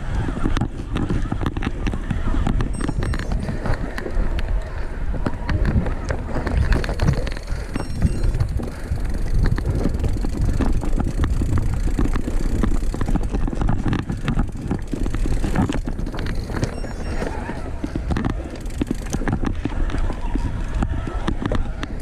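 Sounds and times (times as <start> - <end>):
bike rattling clicks: 0.0 - 22.0
bike rumbling on trail: 0.0 - 22.0.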